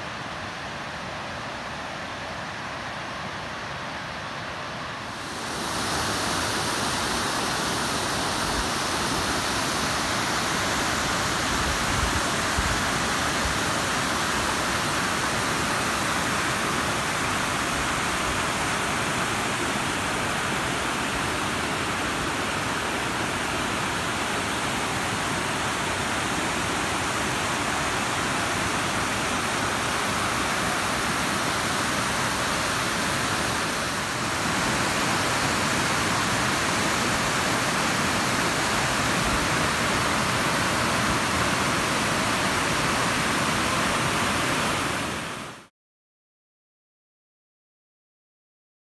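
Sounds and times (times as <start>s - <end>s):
river rushing over rocks: 0.0s - 45.7s.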